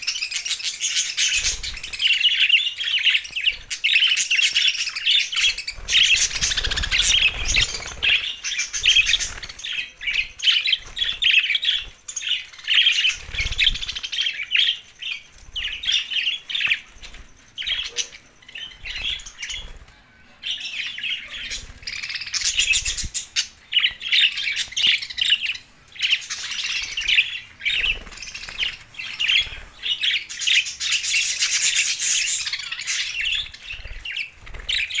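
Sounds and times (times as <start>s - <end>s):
budgerigars chattering and warbling: 0.0s - 19.8s, 20.4s - 35.0s.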